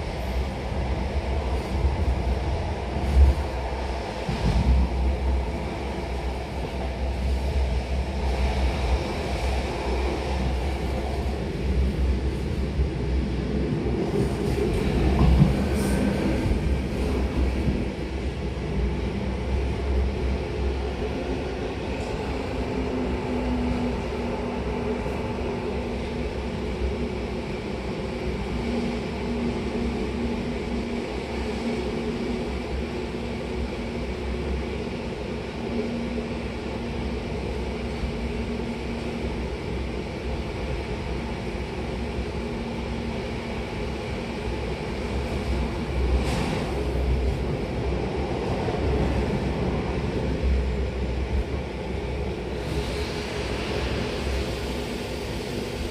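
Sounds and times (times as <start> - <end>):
electric train rumbling on rails: 0.0 - 55.9.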